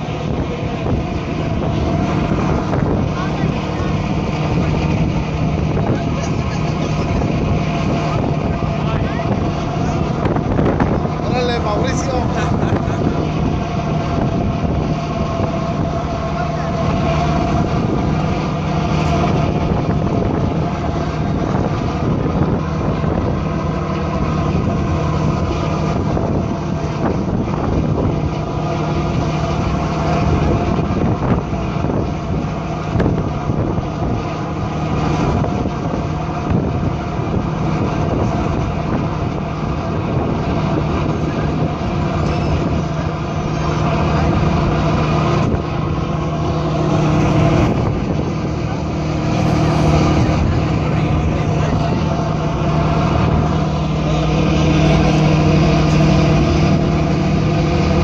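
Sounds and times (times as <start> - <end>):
boat engine humming: 0.0 - 58.0
wind and water rushing: 0.0 - 58.0.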